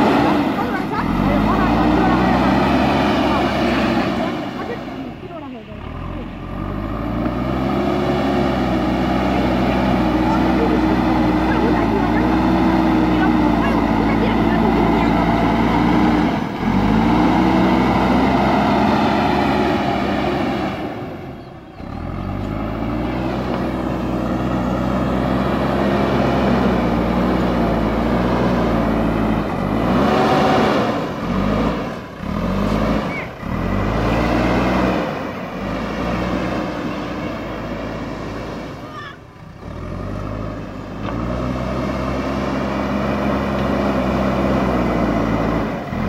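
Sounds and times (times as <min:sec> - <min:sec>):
backhoe diesel engine under load: 0:00.0 - 0:46.0.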